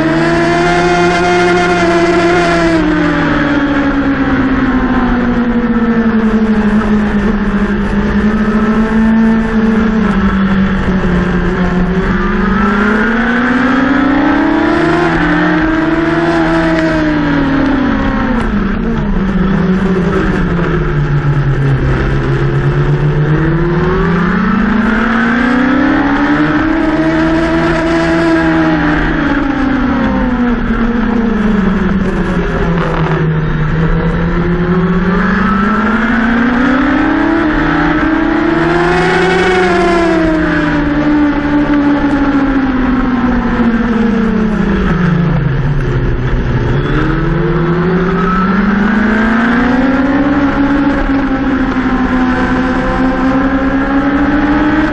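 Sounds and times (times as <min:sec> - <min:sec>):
racing motorcycle engine: 0:00.0 - 0:54.9
wind and tyre noise: 0:00.0 - 0:54.9.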